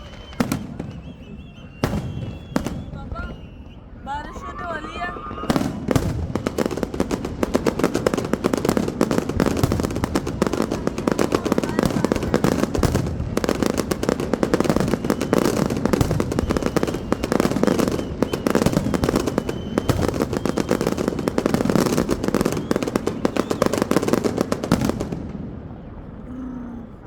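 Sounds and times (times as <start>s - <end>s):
fireworks crackling: 0.0s - 25.7s.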